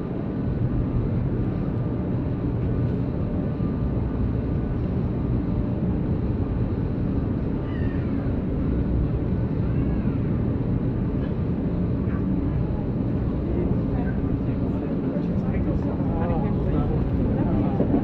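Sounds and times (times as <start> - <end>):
low street rumble: 0.0 - 18.0.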